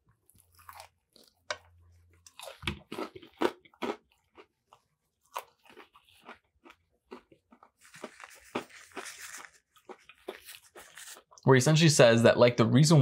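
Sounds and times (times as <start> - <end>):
crunchy chewing: 0.1 - 11.4.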